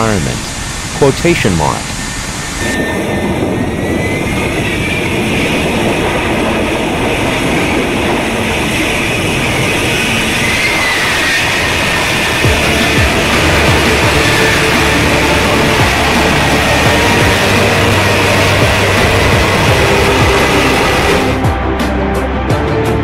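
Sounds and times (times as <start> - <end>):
jet engine roaring with high whine: 0.0 - 21.5.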